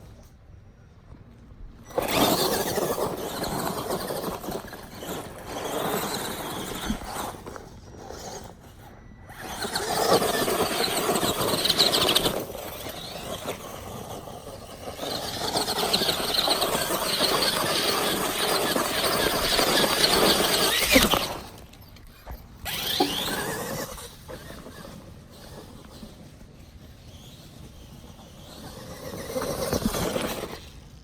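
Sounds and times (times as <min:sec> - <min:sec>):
toy truck motor and tyres: 0:00.0 - 0:31.0.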